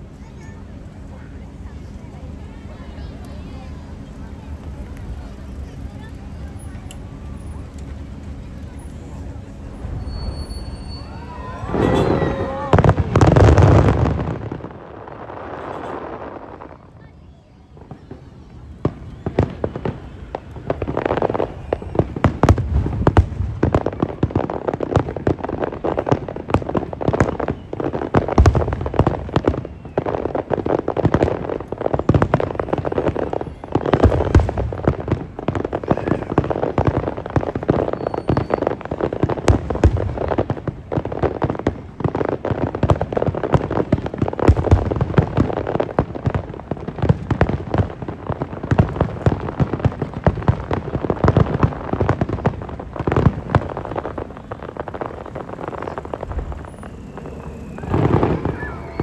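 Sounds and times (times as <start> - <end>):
fireworks crackling pops: 0.0 - 59.0
fireworks deep booms: 3.5 - 17.0, 17.7 - 59.0.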